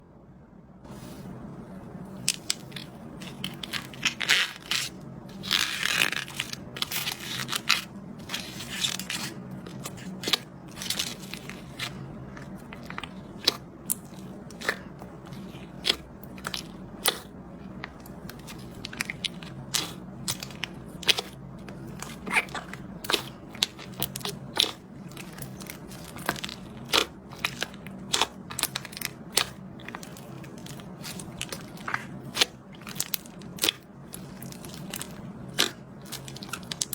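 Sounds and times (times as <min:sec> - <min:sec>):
slime squeezed and stretched: 0:02.2 - 0:36.9.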